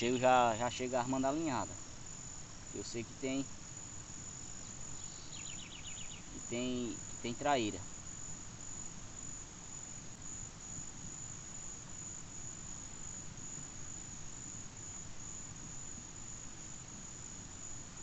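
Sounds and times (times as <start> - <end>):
faint background hiss: 0.0 - 18.0
insects trilling: 0.0 - 18.0.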